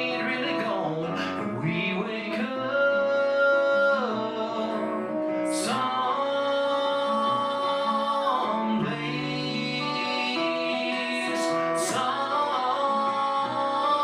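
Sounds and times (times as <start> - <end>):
acoustic guitar: 0.0 - 14.0
people singing country song: 0.0 - 14.0.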